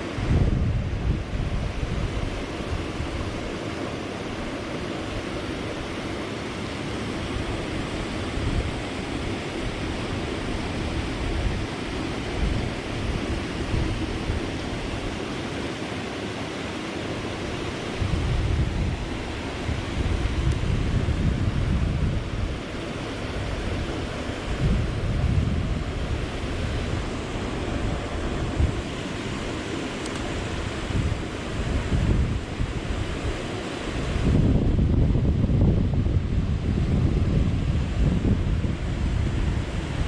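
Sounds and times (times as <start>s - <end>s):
wind buffeting microphone: 0.0s - 3.7s, 7.0s - 15.3s, 17.4s - 40.0s
creek rushing over rapids: 0.0s - 40.0s.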